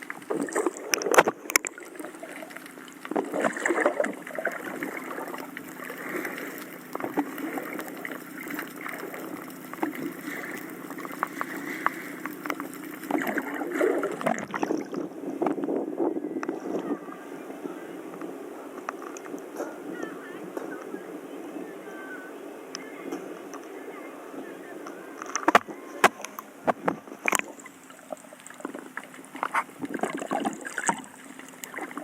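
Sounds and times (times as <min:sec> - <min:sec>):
water sloshing and splashing: 0:00.0 - 0:32.0.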